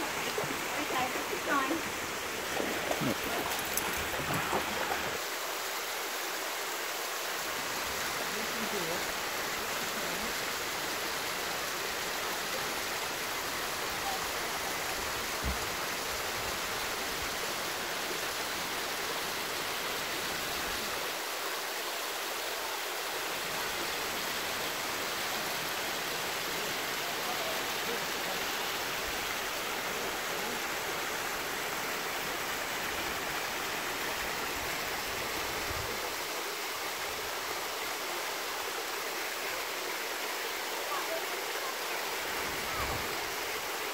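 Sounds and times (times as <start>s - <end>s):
small waterfall rushing: 0.0s - 43.9s.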